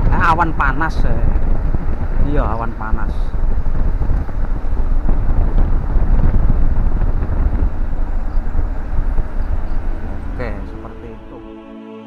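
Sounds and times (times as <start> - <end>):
wind rumble on microphone: 0.0 - 11.5
moving vehicle noise: 0.0 - 11.6.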